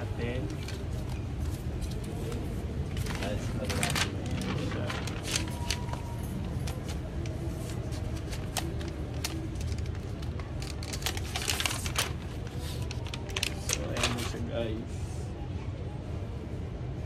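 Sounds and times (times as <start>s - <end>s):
plastic wrap crinkling: 0.4s - 14.5s.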